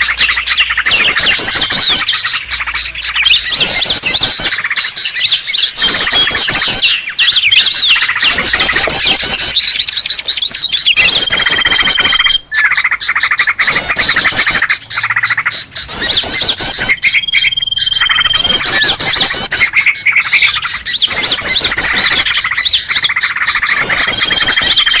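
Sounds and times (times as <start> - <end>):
bird chattering with fast trills: 0.0 - 25.0
long steady bird whistle: 0.0 - 25.0.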